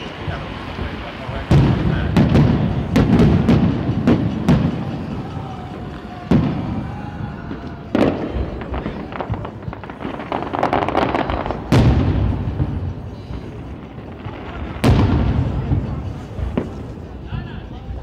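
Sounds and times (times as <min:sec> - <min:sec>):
rapid firework crackling: 0:00.0 - 0:18.0.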